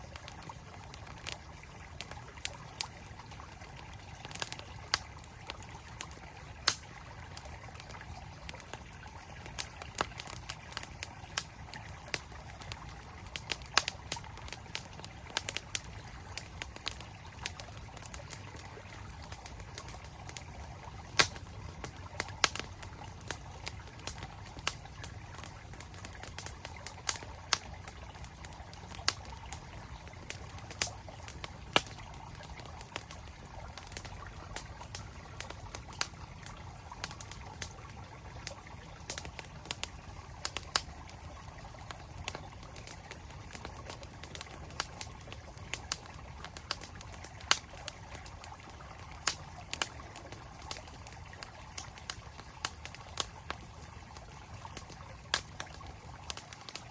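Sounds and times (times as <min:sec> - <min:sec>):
campfire crackling and popping: 0:00.0 - 0:56.9
stream flowing: 0:00.0 - 0:56.9.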